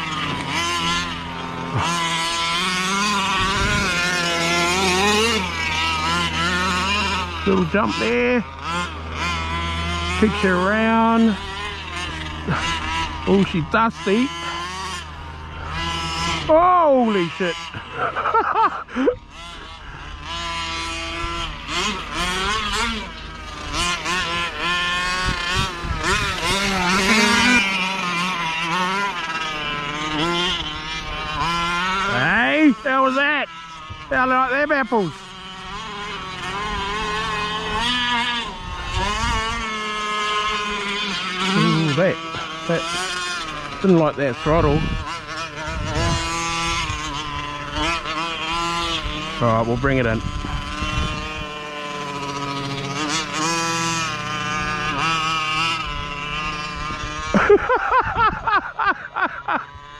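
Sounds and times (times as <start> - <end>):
small two-stroke engine running: 0.0 - 59.9.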